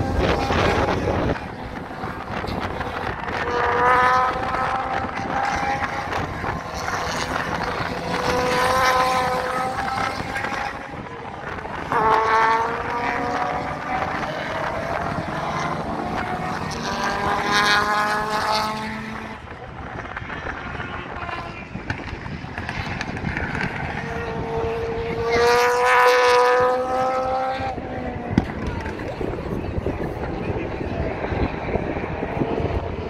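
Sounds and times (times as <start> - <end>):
race cars passing at speed: 0.0 - 33.0.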